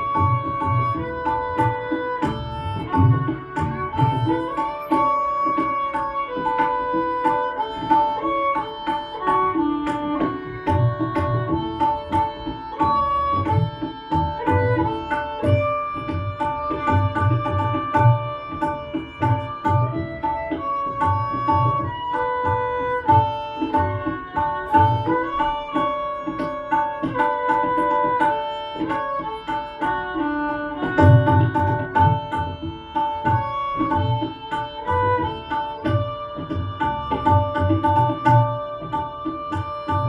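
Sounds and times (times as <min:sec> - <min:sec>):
tabla strokes: 0:00.0 - 0:40.0
violin melody: 0:00.0 - 0:40.0.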